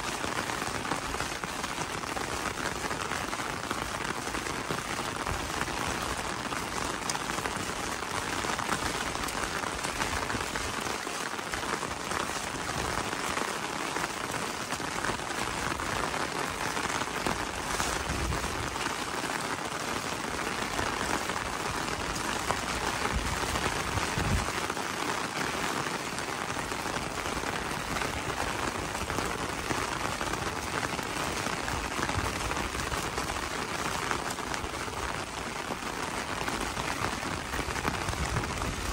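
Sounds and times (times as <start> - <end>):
rain pattering on an umbrella: 0.0 - 38.9.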